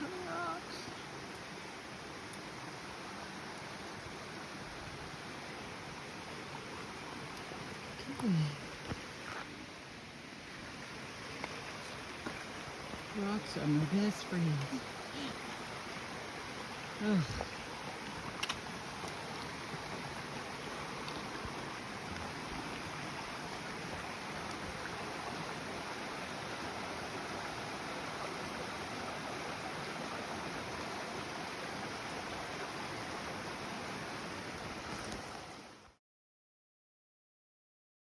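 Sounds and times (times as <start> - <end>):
mountain stream rushing: 0.0 - 35.9.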